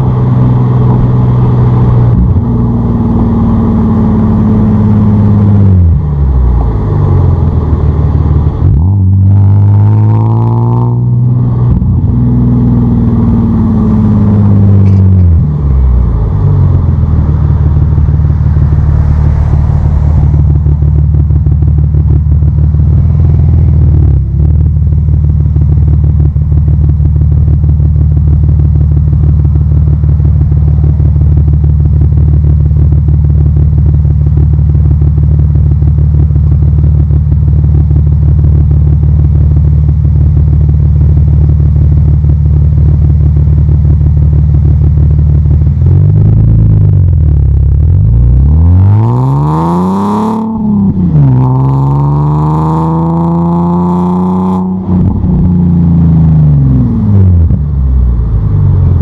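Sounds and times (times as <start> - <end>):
car engine idling: 0.0 - 59.0
car engine revving: 0.0 - 59.0.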